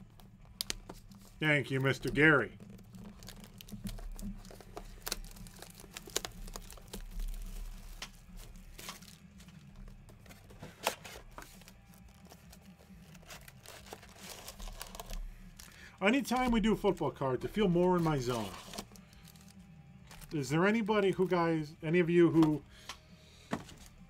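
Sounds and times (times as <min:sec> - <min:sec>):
plastic shrink wrap crinkling: 0:00.0 - 0:21.3.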